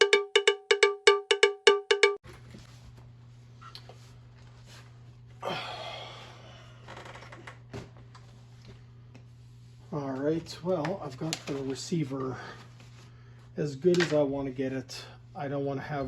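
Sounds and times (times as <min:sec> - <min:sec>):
steady low hum: 0:02.2 - 0:16.0.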